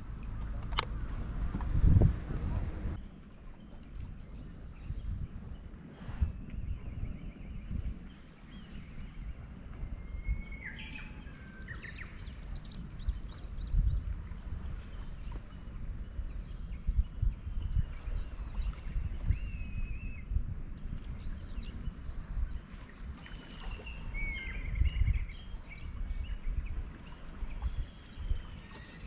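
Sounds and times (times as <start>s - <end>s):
water lapping against kayak: 0.0s - 29.0s
wind rumble on microphone: 0.0s - 29.0s.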